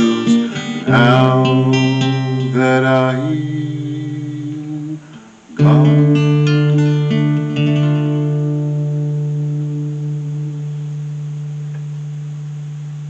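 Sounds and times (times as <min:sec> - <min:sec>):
guitar chord ringing: 0:00.0 - 0:13.0
held low note: 0:00.0 - 0:13.0.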